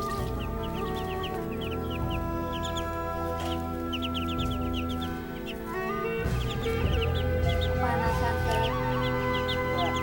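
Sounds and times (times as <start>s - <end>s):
caged birds chirping: 0.0s - 10.0s
chickens clucking: 0.0s - 10.0s.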